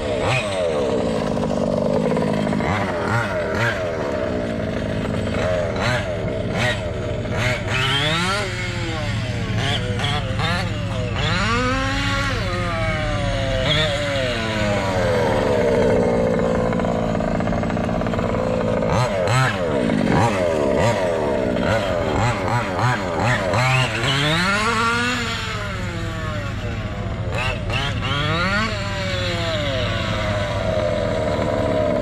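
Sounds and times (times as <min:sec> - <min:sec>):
two-stroke engine revving: 0:00.0 - 0:32.0.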